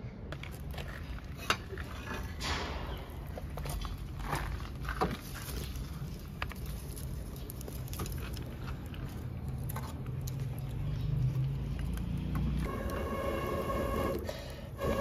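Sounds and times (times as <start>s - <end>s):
wood fire crackling: 0.4s - 15.0s.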